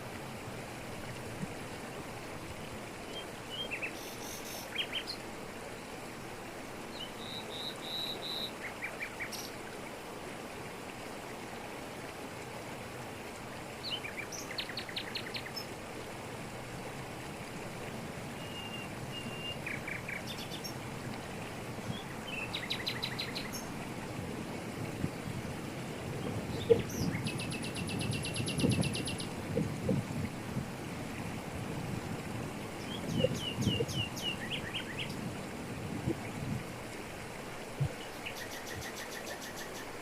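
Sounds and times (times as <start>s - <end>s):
waterfall pouring over rocks: 0.0s - 40.0s.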